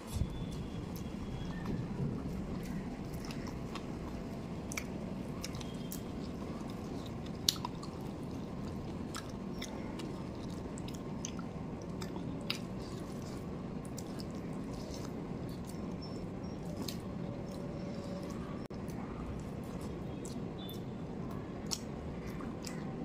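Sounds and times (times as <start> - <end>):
chewing with wet mouth noises: 0.2 - 23.0.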